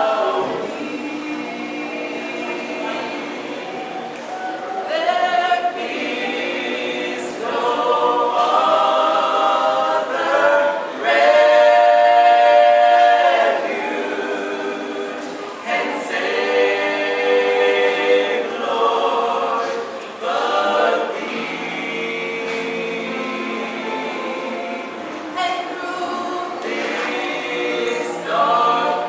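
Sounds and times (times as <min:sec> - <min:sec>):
group singing a hymn a cappella: 0:00.0 - 0:29.0.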